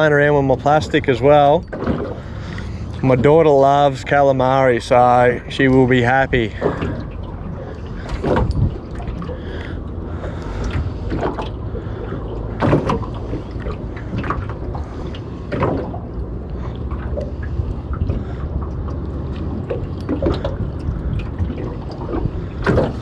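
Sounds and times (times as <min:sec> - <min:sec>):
steady low rumble: 0:00.0 - 0:23.0
water splashing against boat hull: 0:00.0 - 0:23.0.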